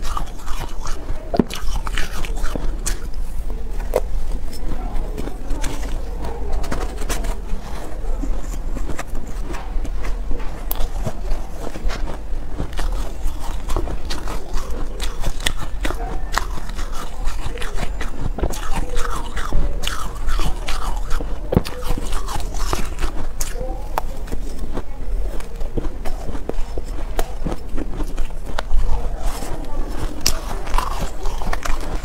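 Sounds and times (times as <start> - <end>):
ice being chewed: 0.0 - 32.0.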